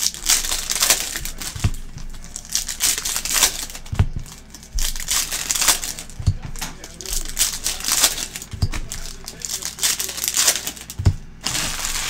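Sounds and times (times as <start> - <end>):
foil wrappers crinkling and tearing: 0.0 - 12.0
dull bumps: 0.2 - 9.6, 10.9 - 12.0.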